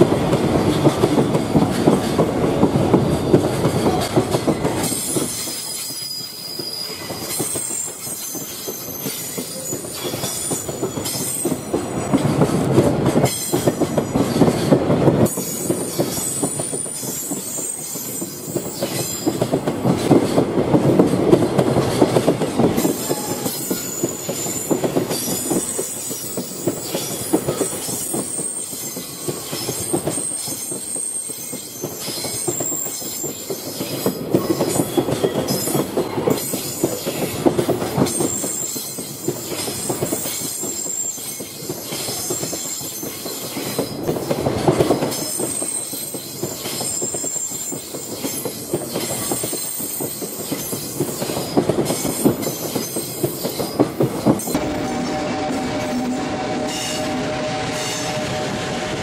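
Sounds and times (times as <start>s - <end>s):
clacking over rail joints: 0.0s - 54.7s
wheels rumbling on rail: 0.0s - 59.0s.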